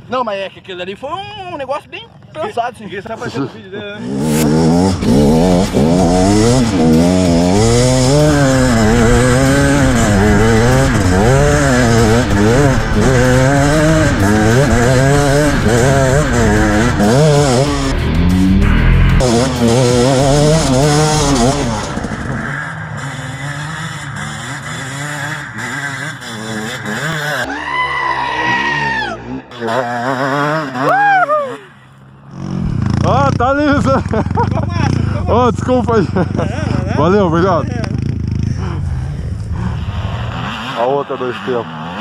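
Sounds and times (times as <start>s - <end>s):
dirt bike engine revving: 3.0s - 42.0s.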